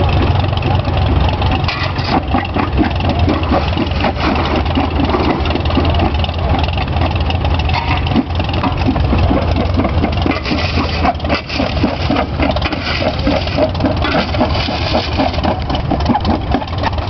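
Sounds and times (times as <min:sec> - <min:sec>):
tractor engine humming: 0:00.0 - 0:17.0
rock crusher clattering: 0:01.6 - 0:17.0.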